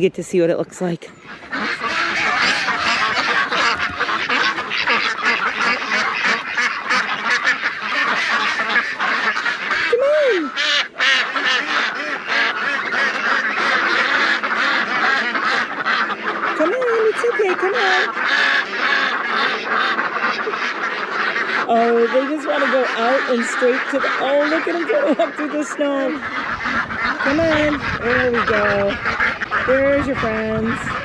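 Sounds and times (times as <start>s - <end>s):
ducks quacking: 0.8s - 31.0s.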